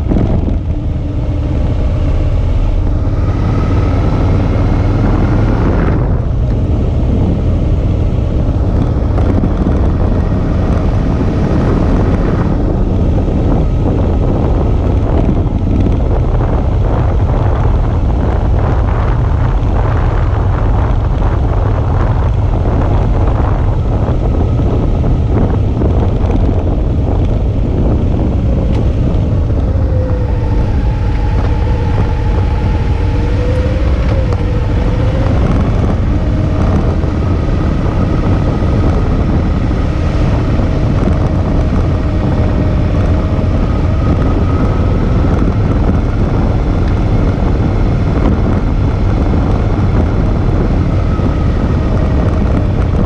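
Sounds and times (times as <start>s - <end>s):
motorcycle engine running: 0.0s - 53.0s
wind on microphone: 0.0s - 53.0s.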